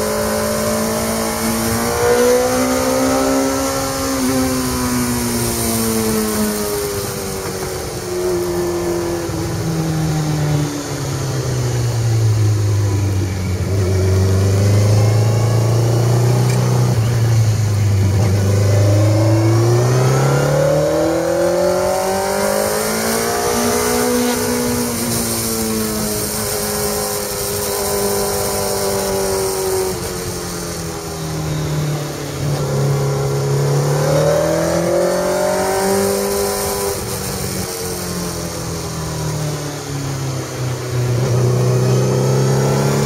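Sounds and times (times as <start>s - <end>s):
motorcycle engine slowing and accelerating: 0.0s - 43.0s.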